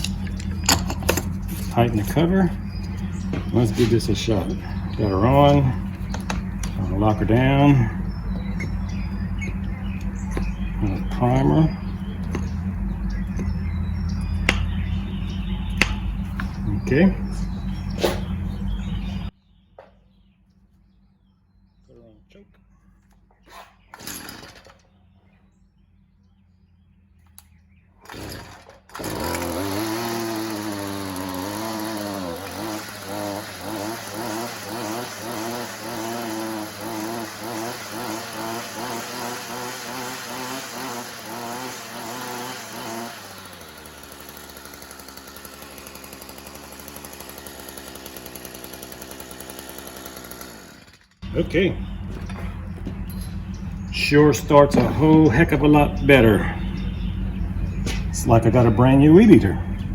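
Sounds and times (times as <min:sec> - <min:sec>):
starter rope tugs: 0:00.0 - 0:19.3, 0:23.9 - 0:24.8, 0:28.0 - 0:59.9
string trimmer engine revving: 0:00.0 - 0:19.3, 0:23.9 - 0:24.8, 0:28.0 - 0:59.9.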